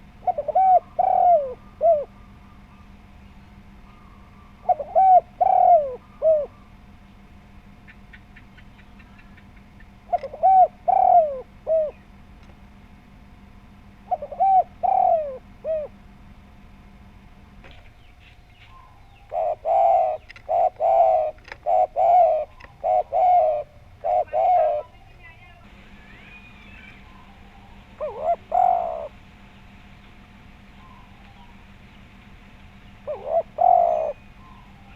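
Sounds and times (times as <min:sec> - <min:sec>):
dove cooing: 0:00.0 - 0:06.9, 0:07.8 - 0:12.2, 0:13.9 - 0:16.1, 0:18.6 - 0:34.9.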